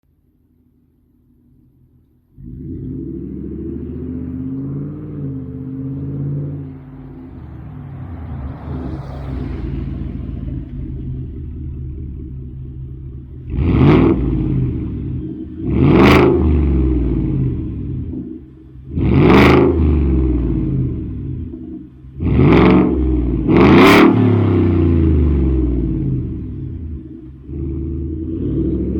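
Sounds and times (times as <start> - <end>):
truck engine rumbling: 0.1 - 28.9
engine revving bursts: 2.4 - 28.9.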